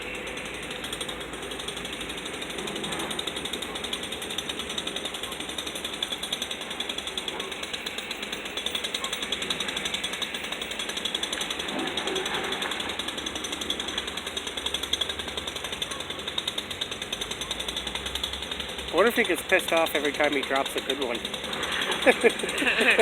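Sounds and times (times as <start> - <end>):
jackhammer hammering: 0.0 - 23.0.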